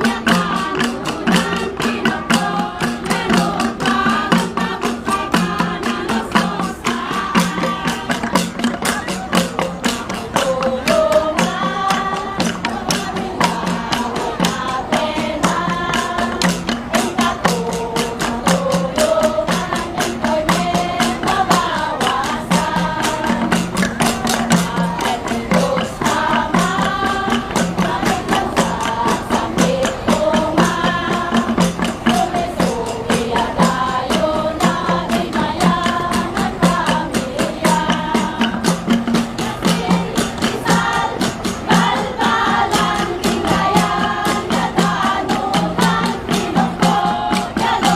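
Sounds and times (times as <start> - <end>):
group of voices singing: 0.0 - 47.9.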